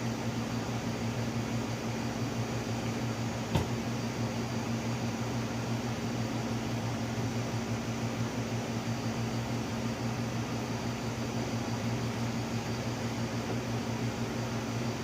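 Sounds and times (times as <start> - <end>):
fan air rushing: 0.0 - 15.0.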